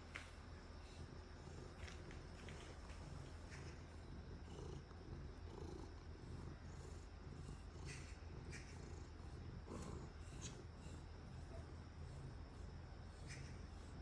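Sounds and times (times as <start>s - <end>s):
cat purring: 0.8s - 14.0s.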